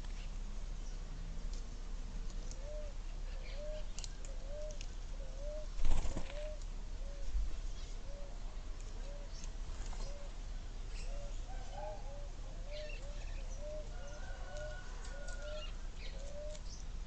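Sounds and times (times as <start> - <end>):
low arched bird calls: 2.4 - 16.9.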